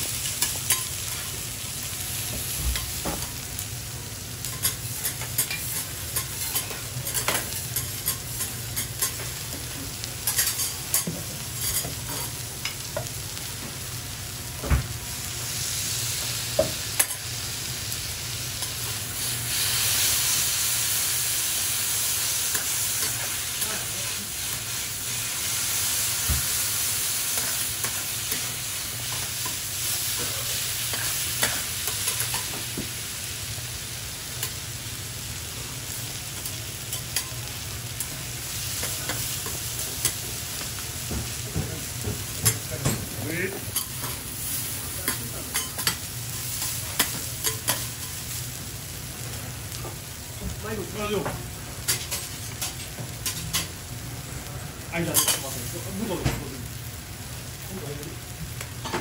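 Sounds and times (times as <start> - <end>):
food sizzling on a griddle: 0.0 - 59.0.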